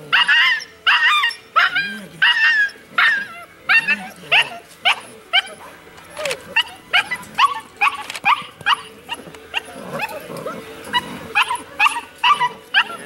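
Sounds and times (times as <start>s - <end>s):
puppy yapping: 0.1s - 13.0s.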